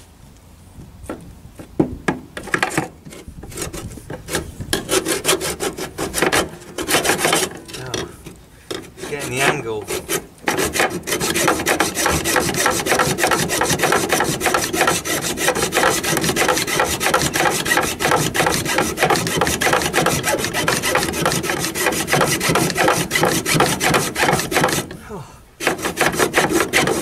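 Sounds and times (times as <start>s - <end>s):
hacksaw cutting metal: 2.4s - 25.0s, 25.6s - 27.0s.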